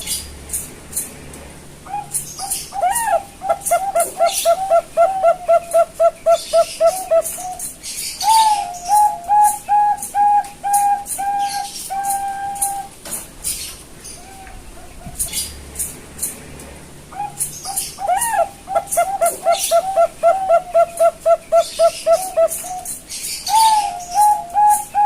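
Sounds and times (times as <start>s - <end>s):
dove cooing: 1.8s - 15.9s, 17.1s - 25.0s.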